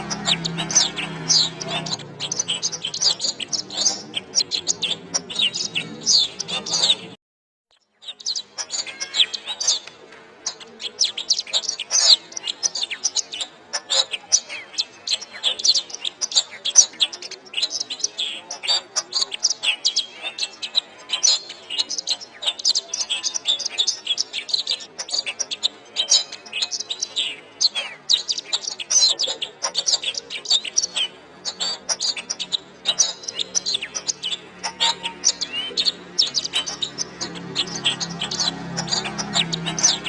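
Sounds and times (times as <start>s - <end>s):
canary singing: 0.0s - 7.2s, 7.8s - 40.0s.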